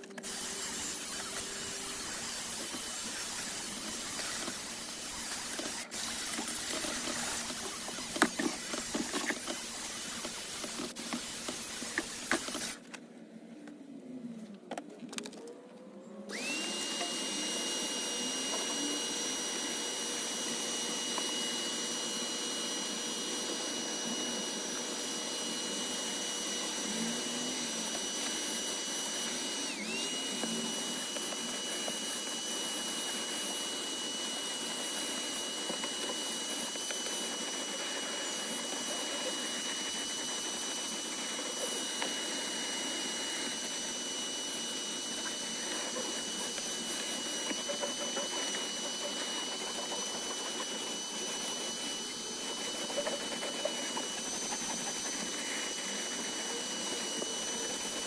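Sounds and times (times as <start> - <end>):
wet vac running with high whine: 0.0 - 12.9, 15.3 - 58.0.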